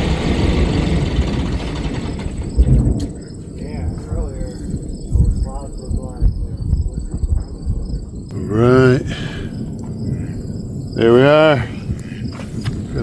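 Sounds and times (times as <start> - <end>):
insects trilling: 0.0 - 13.0
low fluctuating rumble: 0.0 - 13.0.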